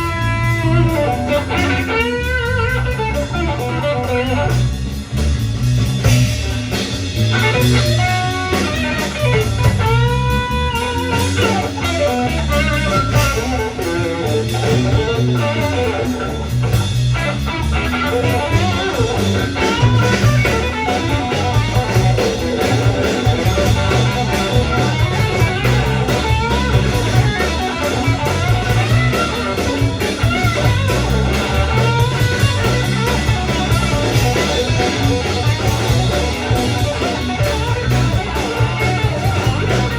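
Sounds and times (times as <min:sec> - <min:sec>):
electric guitar sliding and bending: 0:00.0 - 0:39.9
live rock band playing: 0:00.0 - 0:39.9.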